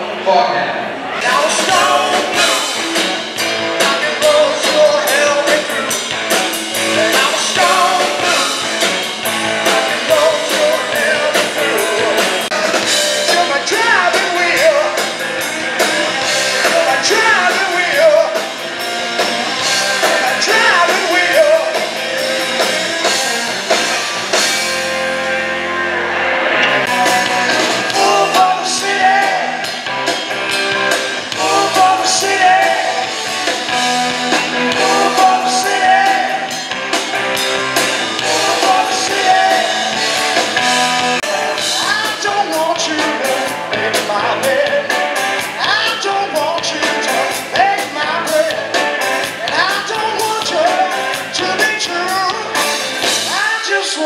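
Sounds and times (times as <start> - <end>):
bass guitar: 0.0 - 54.0
electric guitars: 0.0 - 54.0
person singing lead vocal: 1.1 - 18.7, 19.4 - 23.4, 26.9 - 30.2, 30.8 - 36.9, 38.0 - 54.0
drum kit: 1.2 - 54.0.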